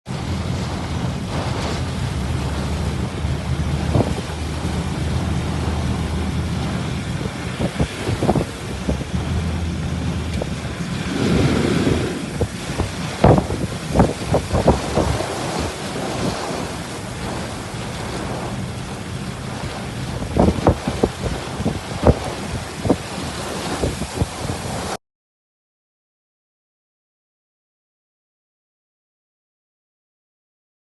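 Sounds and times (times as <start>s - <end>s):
heavy rain pouring: 0.1s - 25.0s
wind on microphone: 0.1s - 25.0s.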